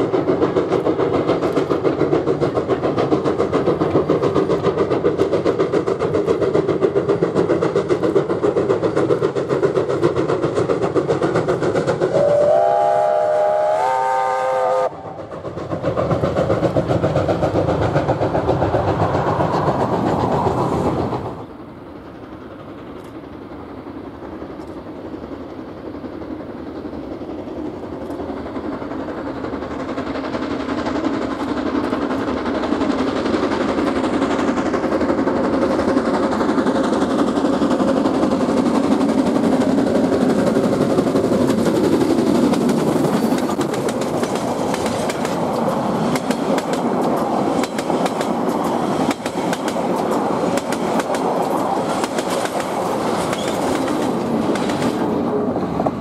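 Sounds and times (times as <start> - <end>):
steam locomotive passing: 0.0 - 56.0
train wheels clicking over rail joints: 0.0 - 56.0.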